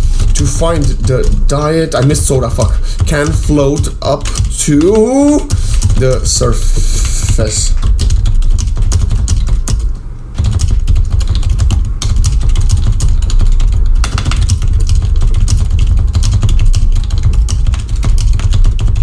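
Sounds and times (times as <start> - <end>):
fast keyboard typing: 0.0 - 19.0.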